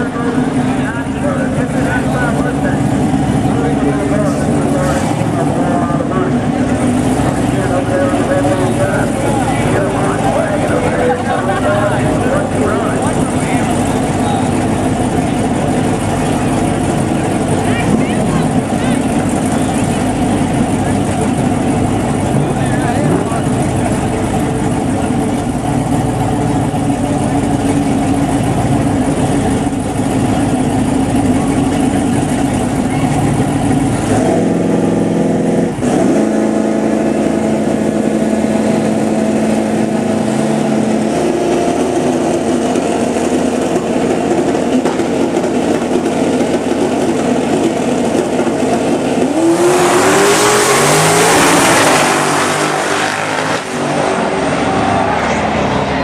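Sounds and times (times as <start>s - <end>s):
drag cars accelerating: 0.0s - 56.0s.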